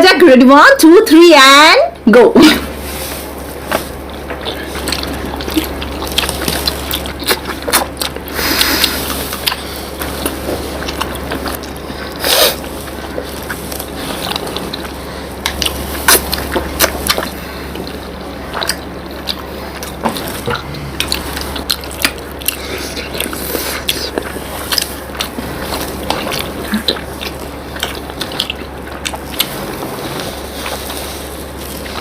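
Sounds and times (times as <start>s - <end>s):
people eating wet food: 2.4s - 32.0s.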